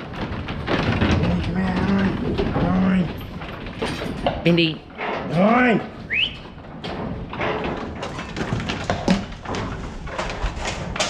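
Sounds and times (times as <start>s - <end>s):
knocks and thumps of sheep: 0.0s - 11.0s.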